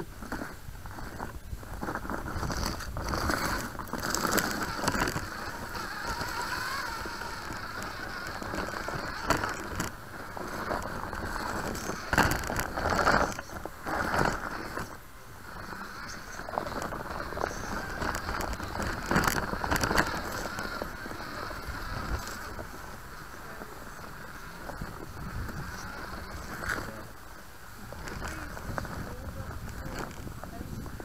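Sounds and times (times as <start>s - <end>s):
rc truck motor whining: 0.0s - 31.0s.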